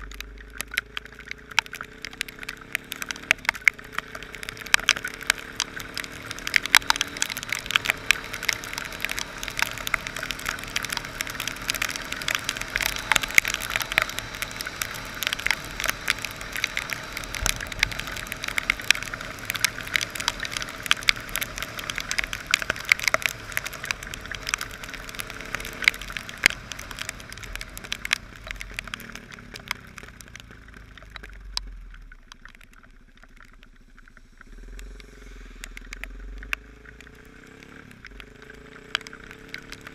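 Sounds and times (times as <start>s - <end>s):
heavy rain hitting microphone: 0.0s - 39.9s.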